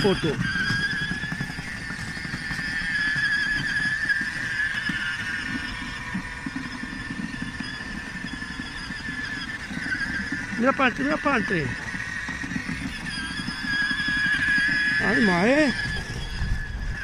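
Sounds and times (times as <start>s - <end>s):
electric motor whine: 0.0s - 17.0s
plastic wheels rumbling on bricks: 0.0s - 17.0s.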